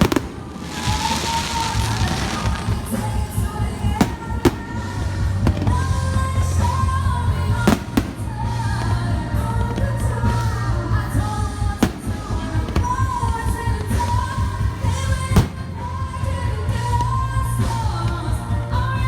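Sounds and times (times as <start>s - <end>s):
firework bangs: 0.0s - 18.4s
pop music with singer: 0.0s - 19.0s.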